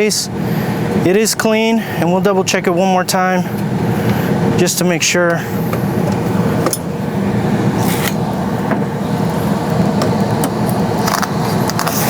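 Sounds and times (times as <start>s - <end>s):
furnace blower humming: 0.0s - 12.0s.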